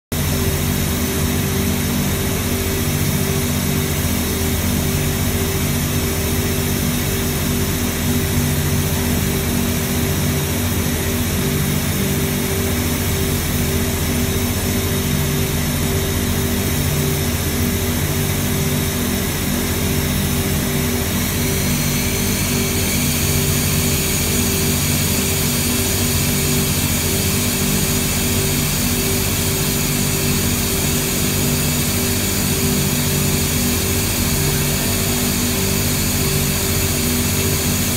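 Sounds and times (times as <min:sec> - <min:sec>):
machine drone with hum: 0:00.2 - 0:37.9.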